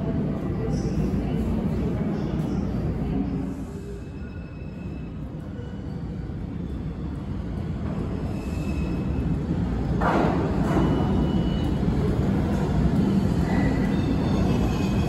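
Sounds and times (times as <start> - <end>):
rail noise: 0.0 - 15.0
subway train rumbling: 0.0 - 15.0.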